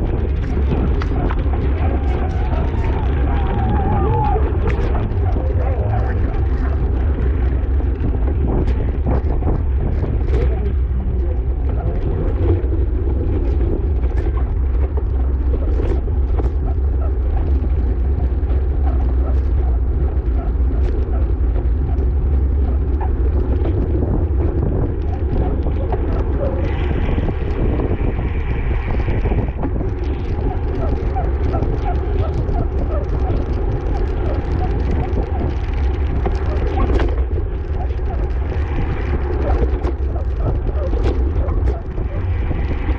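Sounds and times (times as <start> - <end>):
small clicks and ticks: 0.0 - 42.9
wind rumble on microphone: 0.0 - 42.9.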